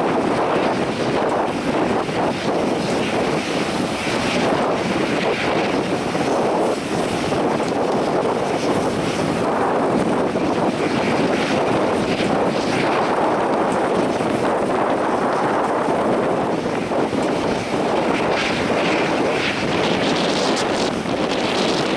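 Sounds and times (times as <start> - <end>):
jet engines roaring at low power: 0.0 - 21.9
wind buffeting microphone: 0.0 - 21.9.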